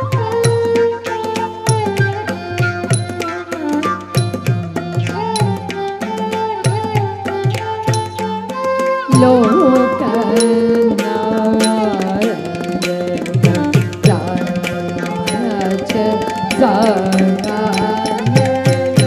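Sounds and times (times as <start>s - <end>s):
hand drum strokes: 0.0s - 19.0s
held melody line: 0.0s - 19.0s.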